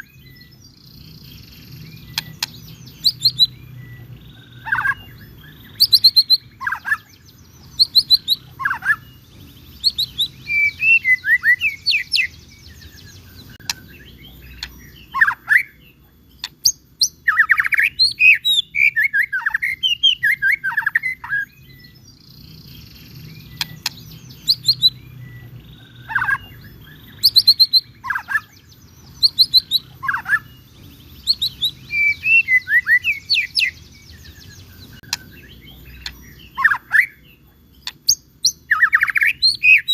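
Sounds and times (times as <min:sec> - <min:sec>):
bird singing whistled phrases and trills: 0:00.0 - 0:39.9
low steady background hum: 0:00.0 - 0:39.9.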